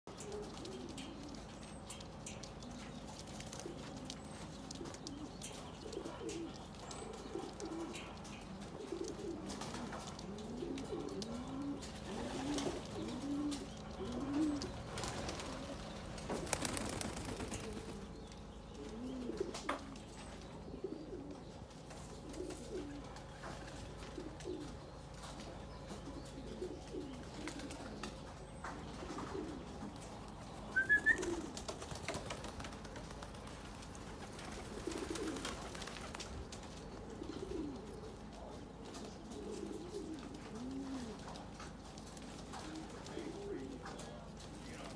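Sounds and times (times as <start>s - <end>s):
pigeons cooing: 0.1s - 44.9s.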